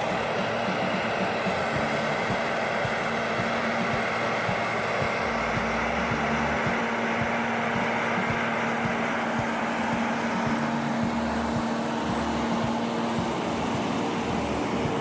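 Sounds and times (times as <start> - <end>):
heavy machine engine running: 0.0 - 15.0.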